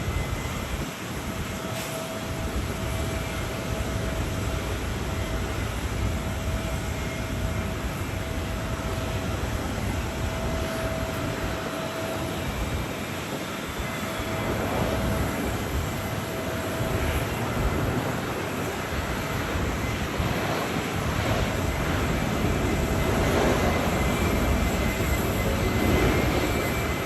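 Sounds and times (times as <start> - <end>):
faint steady whine: 0.0 - 27.0
jet engines running: 0.0 - 27.0
wind rumble on microphone: 0.0 - 27.0.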